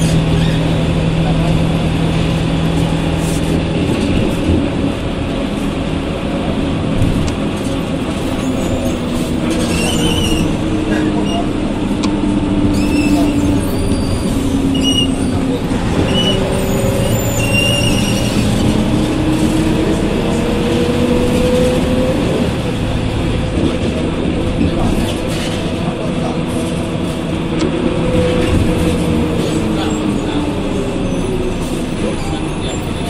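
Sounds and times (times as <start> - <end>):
bus diesel engine: 0.0 - 33.0
road noise: 0.0 - 33.0.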